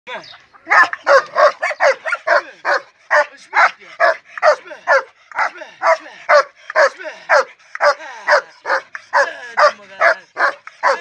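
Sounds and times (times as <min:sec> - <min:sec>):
dog barking: 0:00.7 - 0:11.0.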